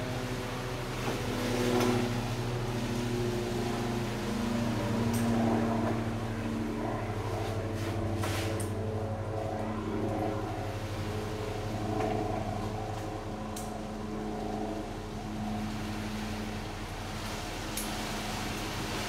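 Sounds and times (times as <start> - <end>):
engine running at low speed: 0.0 - 19.0.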